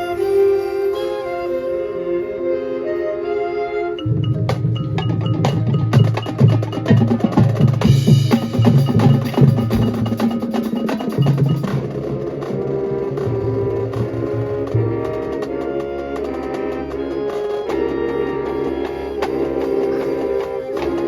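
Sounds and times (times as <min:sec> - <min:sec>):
marching band playing: 0:02.5 - 0:21.0.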